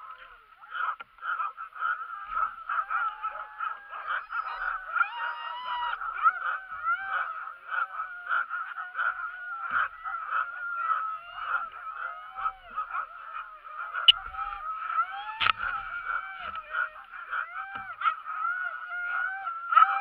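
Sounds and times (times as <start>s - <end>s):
sled dogs barking and yelping: 0.0s - 20.0s
dogs whining: 1.9s - 20.0s.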